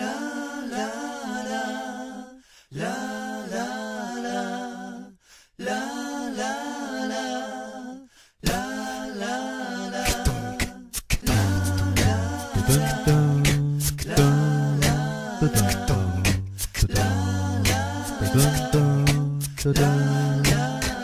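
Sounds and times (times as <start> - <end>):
wordless a cappella singing: 0.0 - 21.0.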